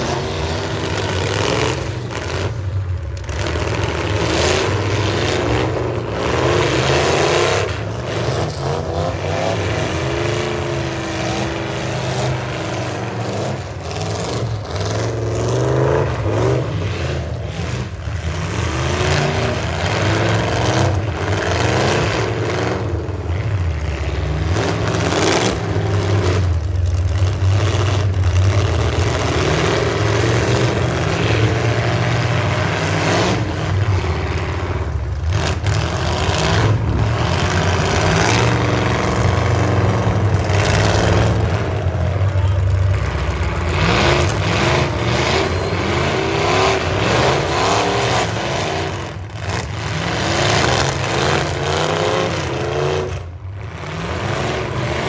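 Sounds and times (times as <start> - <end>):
truck engines revving: 0.0 - 55.0
trucks crunching into each other: 0.0 - 55.0.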